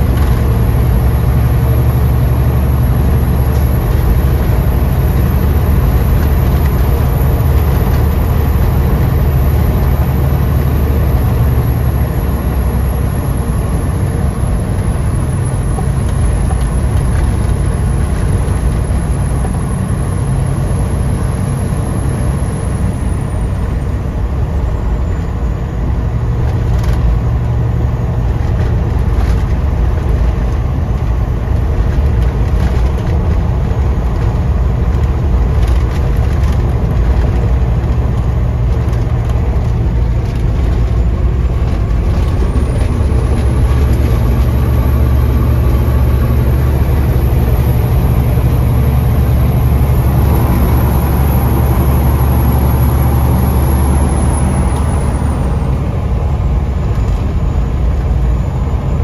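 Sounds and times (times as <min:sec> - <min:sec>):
truck diesel engine drone: 0:00.0 - 0:59.0.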